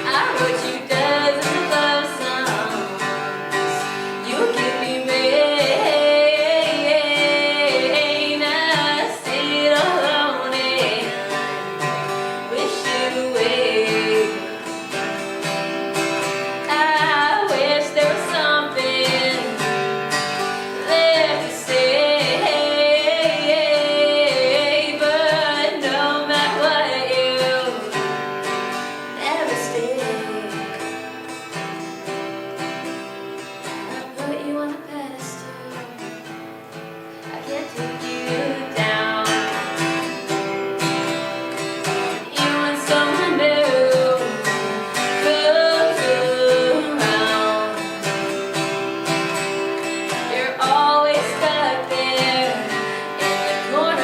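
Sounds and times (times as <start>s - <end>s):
woman singing: 0.0s - 31.4s, 33.6s - 36.4s, 37.2s - 54.0s
guitar accompaniment: 0.0s - 54.0s.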